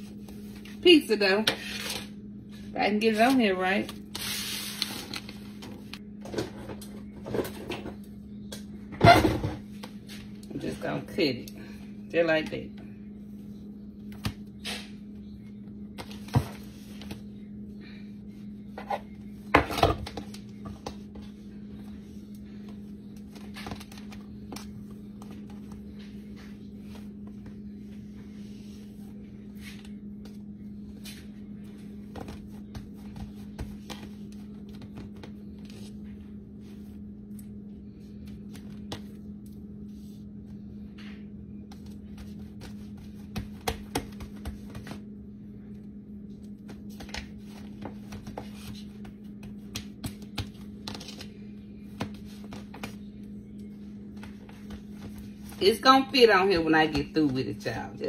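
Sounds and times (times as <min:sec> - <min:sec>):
dough rubbing and handling: 0:00.0 - 0:06.1, 0:12.1 - 0:58.0
steady low hum: 0:00.0 - 0:58.0.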